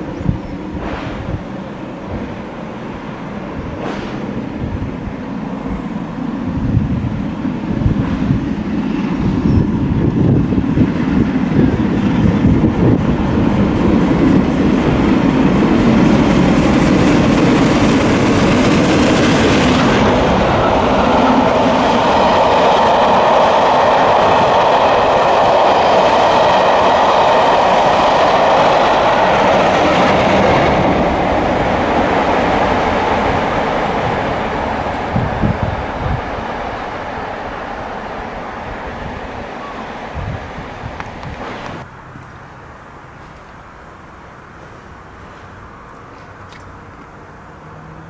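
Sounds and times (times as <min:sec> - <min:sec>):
steam locomotive passing: 0:00.0 - 0:41.9
coaches rolling on rails: 0:00.0 - 0:42.3.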